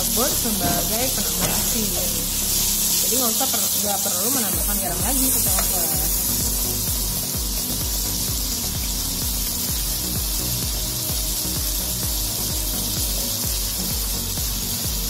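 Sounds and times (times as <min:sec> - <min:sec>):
background music: 0:00.0 - 0:15.0
food sizzling in a wok: 0:00.0 - 0:15.0.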